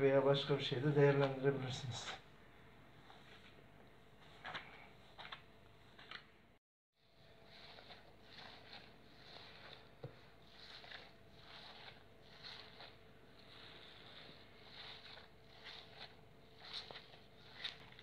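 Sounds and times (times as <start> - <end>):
hands kneading cream: 3.0 - 18.0.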